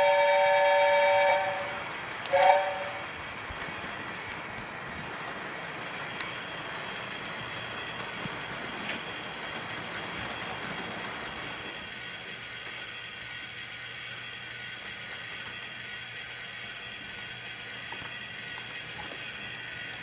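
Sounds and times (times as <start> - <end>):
model trains whirring and rattling: 0.0 - 20.0.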